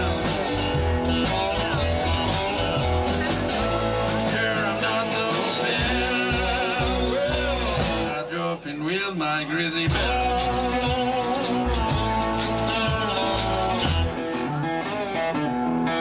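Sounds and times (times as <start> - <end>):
drums keeping a steady beat: 0.0 - 8.4, 9.6 - 14.3
blues rock band: 0.0 - 16.0
guitars strummed: 0.0 - 16.0
sliding guitar lines: 0.0 - 16.0.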